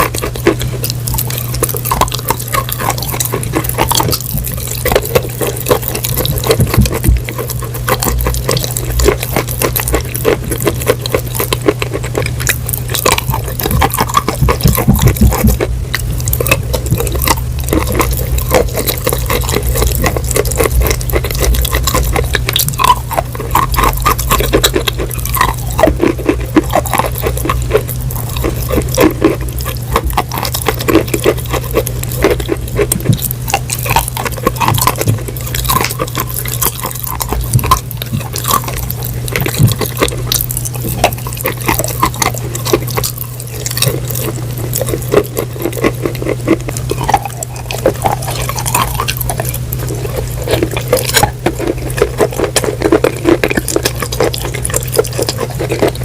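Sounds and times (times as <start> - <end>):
chewing and crunching: 0.0 - 56.0
steady low hum: 0.0 - 56.0
wet mouth sounds: 0.0 - 56.0.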